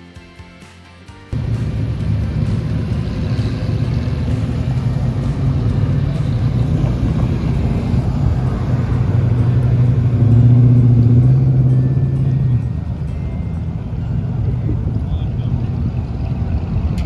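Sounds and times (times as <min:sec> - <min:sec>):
car engine and exhaust droning: 0:01.4 - 0:17.0.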